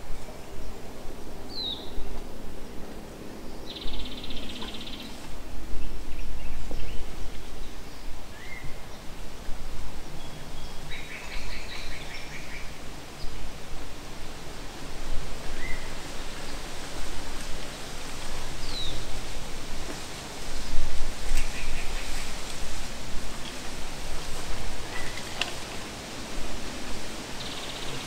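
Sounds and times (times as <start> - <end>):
wind rumble on microphone: 0.0 - 28.0
wind rustling through trees: 0.0 - 28.0
songbirds calling: 0.2 - 9.2, 9.9 - 13.6, 15.4 - 22.7, 23.3 - 28.0.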